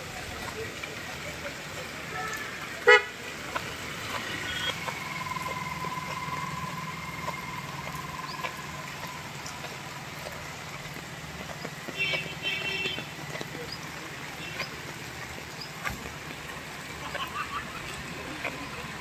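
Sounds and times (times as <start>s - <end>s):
heavy rain on pavement: 0.0s - 19.0s
vehicle engine running: 2.9s - 19.0s.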